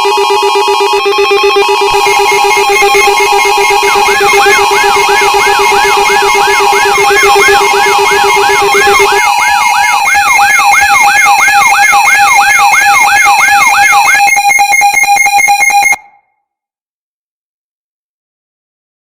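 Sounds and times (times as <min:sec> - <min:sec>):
rising siren-like alarm sweep: 0:00.0 - 0:16.1
steady high alarm tones: 0:00.0 - 0:16.2.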